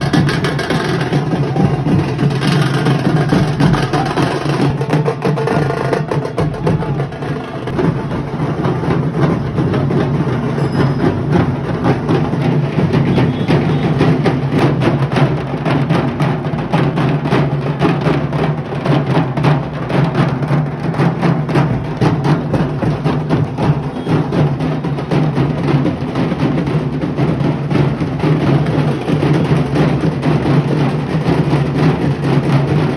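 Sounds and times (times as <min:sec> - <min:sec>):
music with fast drumming: 0:00.0 - 0:32.9.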